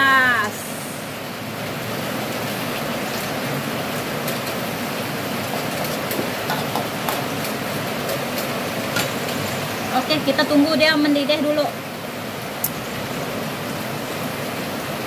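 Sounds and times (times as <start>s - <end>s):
broth heating with rushing noise: 0.0s - 15.0s.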